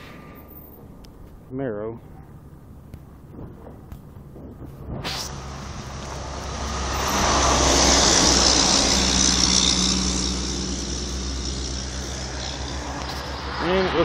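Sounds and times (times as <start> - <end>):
car driving up: 2.3 - 14.0.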